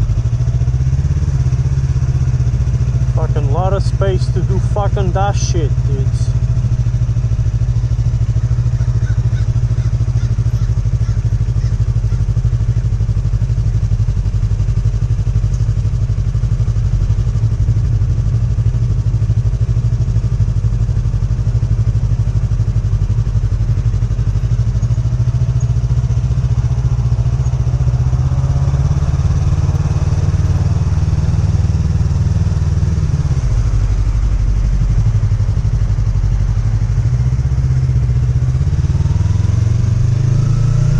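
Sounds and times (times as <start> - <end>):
motorcycle engine at low speed: 0.0 - 40.9.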